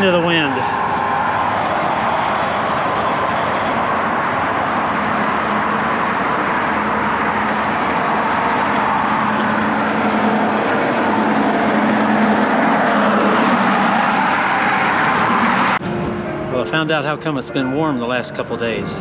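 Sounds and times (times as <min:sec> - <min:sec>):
highway traffic rushing: 0:00.0 - 0:17.8.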